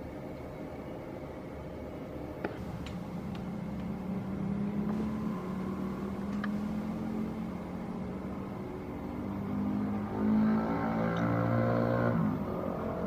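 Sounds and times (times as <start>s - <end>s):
airliner engines droning: 0.0s - 13.0s.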